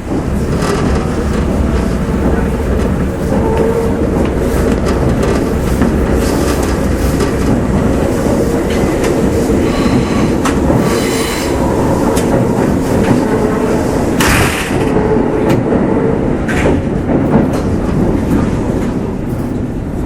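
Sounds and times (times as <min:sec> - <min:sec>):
train rumbling: 0:00.0 - 0:20.0
wheels clicking over rail joints: 0:00.0 - 0:20.0.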